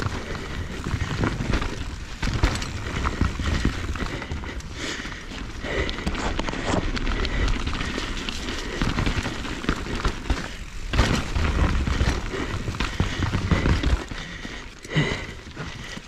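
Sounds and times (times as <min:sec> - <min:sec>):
mountain bike clattering over rock: 0:00.0 - 0:16.0.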